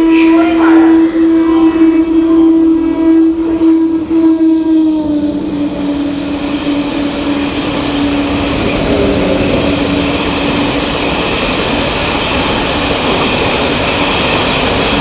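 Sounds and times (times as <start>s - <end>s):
train horn: 0.0s - 12.6s
train rumbling past: 0.0s - 15.0s.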